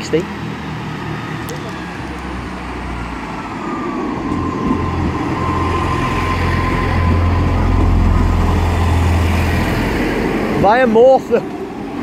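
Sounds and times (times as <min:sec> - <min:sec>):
thin steady whine: 0:00.0 - 0:11.9
diesel train engine drone: 0:00.0 - 0:12.0.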